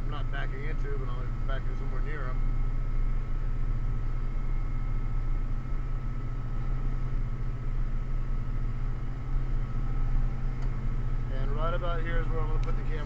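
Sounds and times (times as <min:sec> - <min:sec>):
diesel truck engine drone: 0:00.0 - 0:13.0
faint steady whine: 0:00.0 - 0:13.0.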